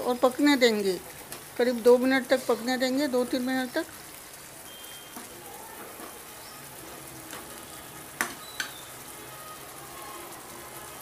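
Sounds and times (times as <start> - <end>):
gravy sizzling in a pan: 0.0 - 11.0.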